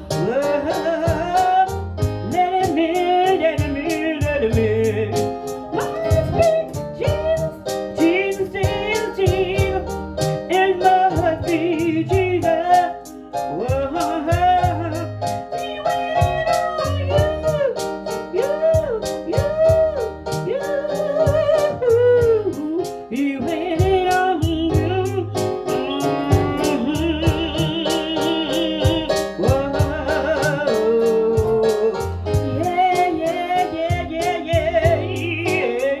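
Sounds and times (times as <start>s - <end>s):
electronic keyboard chords with beat: 0.0s - 36.0s
person singing with vibrato: 0.0s - 36.0s.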